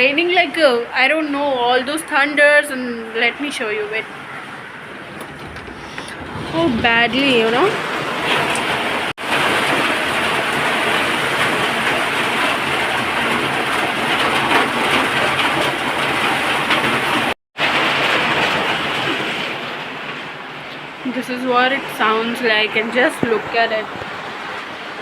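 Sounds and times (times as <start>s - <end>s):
heavy rain pouring: 1.8s - 25.0s.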